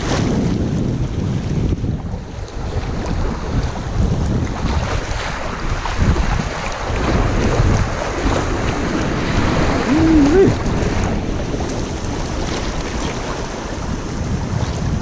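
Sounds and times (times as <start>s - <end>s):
paddles splashing: 0.0s - 15.0s
river rapids splashing on kayak: 0.0s - 15.0s
wind rumble on microphone: 0.0s - 15.0s.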